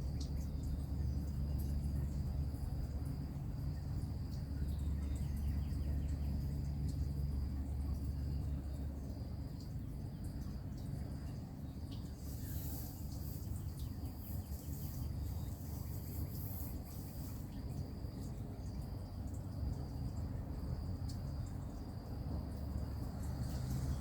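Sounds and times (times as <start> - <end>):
crickets trilling: 0.0 - 24.0
faint chirps: 0.0 - 24.0.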